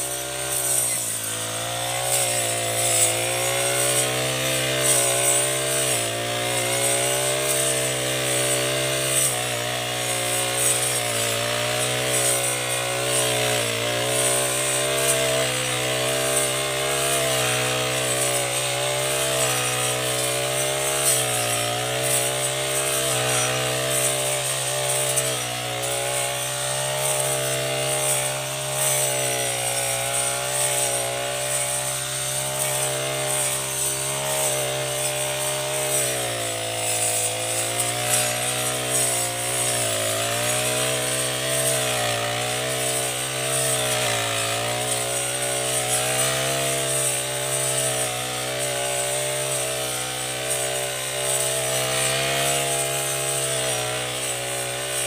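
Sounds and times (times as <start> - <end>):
brush cutter cutting grass: 0.0 - 55.0.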